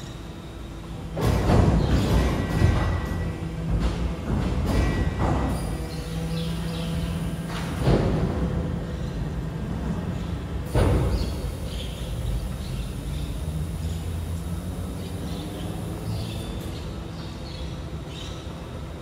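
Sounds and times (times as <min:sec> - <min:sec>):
truck machinery humming: 0:00.0 - 0:19.0.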